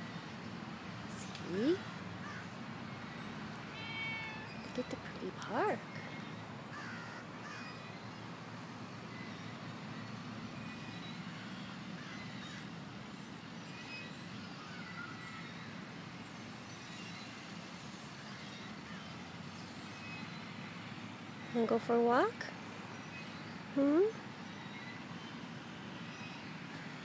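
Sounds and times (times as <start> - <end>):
low rumble of distant traffic: 0.0 - 27.0.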